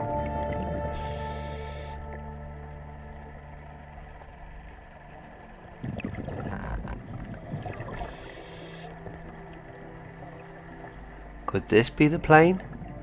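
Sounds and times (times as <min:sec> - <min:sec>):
regulator bubbles gurgling underwater: 0:00.0 - 0:11.4, 0:12.2 - 0:13.0.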